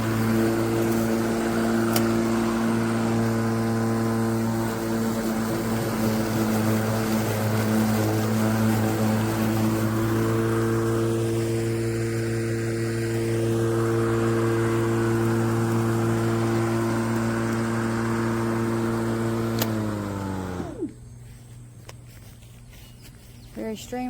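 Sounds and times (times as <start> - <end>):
electric lawn mower running: 0.0 - 21.9.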